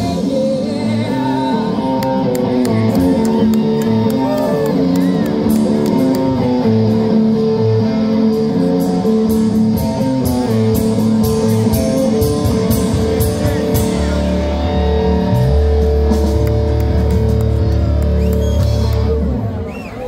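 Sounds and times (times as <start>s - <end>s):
bass guitar: 0.0s - 20.0s
drums: 0.0s - 20.0s
electric guitar: 0.0s - 20.0s.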